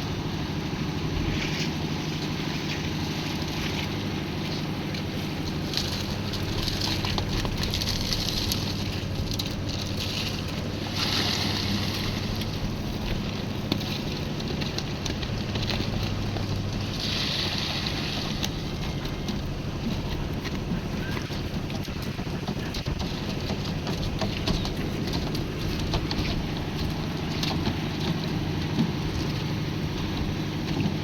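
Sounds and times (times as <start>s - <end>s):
concrete mixer running: 0.0s - 31.0s.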